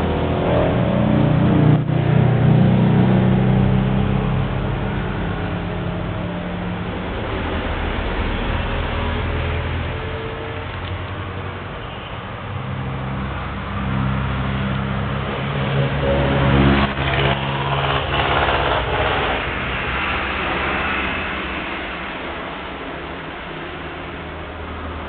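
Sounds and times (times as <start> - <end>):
vehicle engine passing by: 0.0 - 11.8, 12.5 - 25.0.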